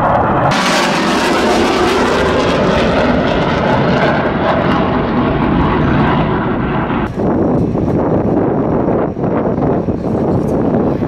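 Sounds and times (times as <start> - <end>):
jet flying past roaring: 0.0 - 11.0.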